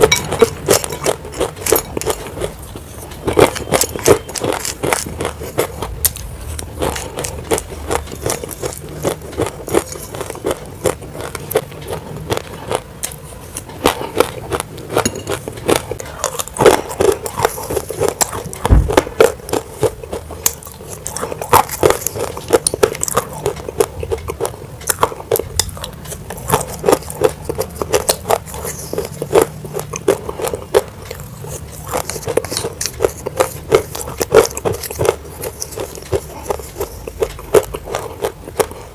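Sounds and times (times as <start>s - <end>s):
clay being chewed crunching: 0.0s - 38.9s.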